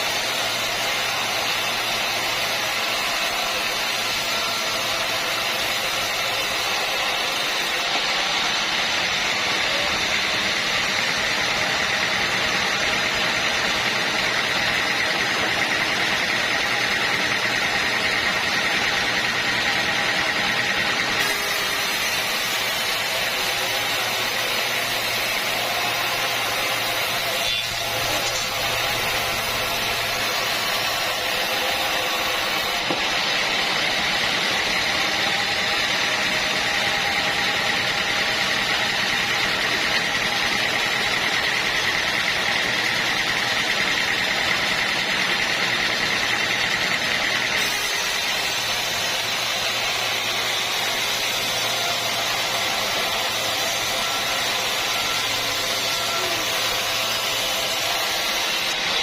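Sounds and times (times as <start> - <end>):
high steady machine whine: 0.0 - 59.0
sawmill machinery drone: 0.0 - 59.0.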